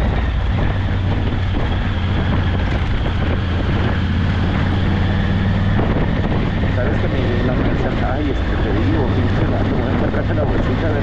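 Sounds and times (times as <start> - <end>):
rushing noise: 0.0 - 11.0
vehicle engine drone: 0.0 - 11.0.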